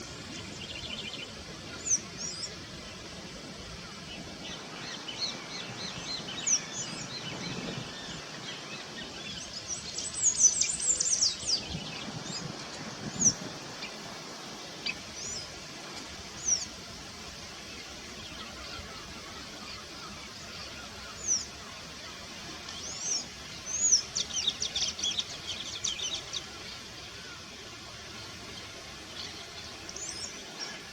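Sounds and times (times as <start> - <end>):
outdoor background hiss: 0.0 - 30.9
small birds chirping: 0.0 - 30.9.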